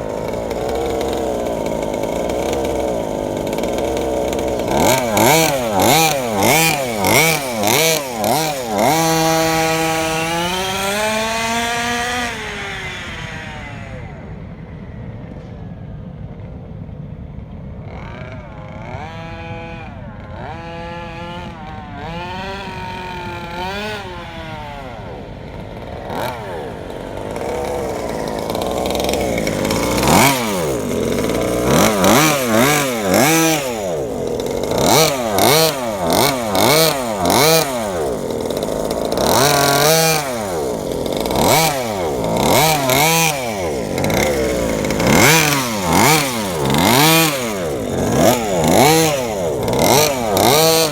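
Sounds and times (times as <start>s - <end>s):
two-stroke engine revving: 0.0s - 15.8s, 17.4s - 50.9s.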